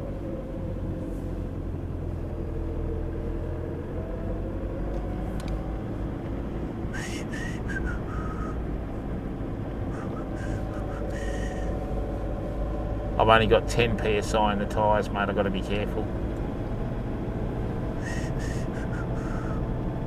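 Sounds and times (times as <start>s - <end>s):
engine and tyre rumble on sand: 0.0s - 20.0s.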